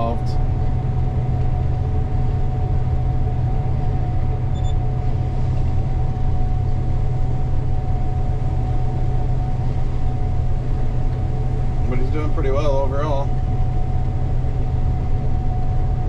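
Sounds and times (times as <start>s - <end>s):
combine harvester drone: 0.0s - 16.0s
high-pitched machine whine: 0.0s - 16.0s.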